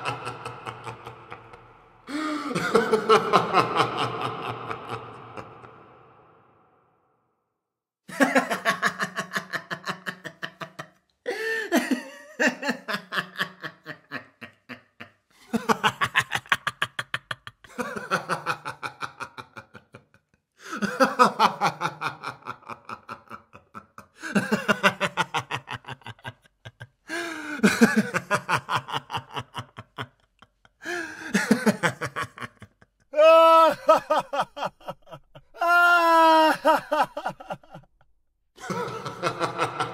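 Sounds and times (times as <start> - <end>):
man laughing: 0.0 - 6.4, 8.1 - 37.9, 38.6 - 39.9.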